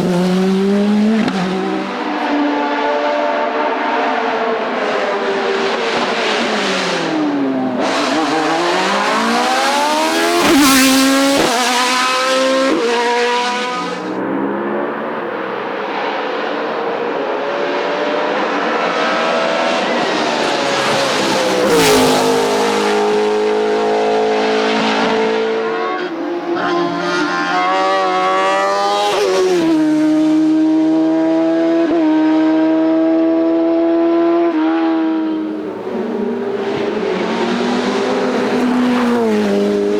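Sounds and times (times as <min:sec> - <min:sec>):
race car engines at full throttle: 0:00.0 - 0:39.9.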